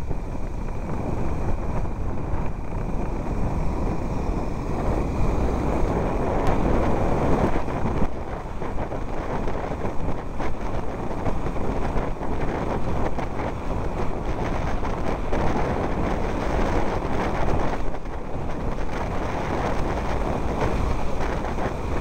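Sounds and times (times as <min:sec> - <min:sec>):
vehicle rumbling on unpaved road: 0:00.0 - 0:22.0
wind buffeting microphone: 0:00.0 - 0:22.0.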